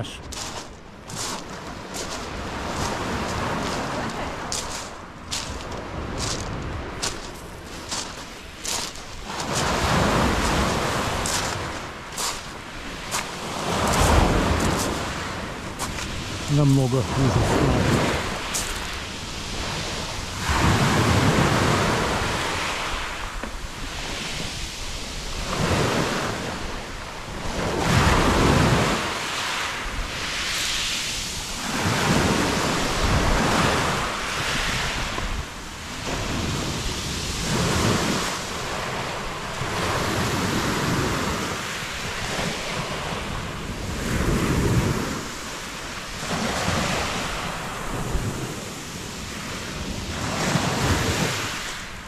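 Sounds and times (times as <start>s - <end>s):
waves breaking on pebble beach: 0.0s - 52.0s
wind gusting on microphone: 0.0s - 52.0s.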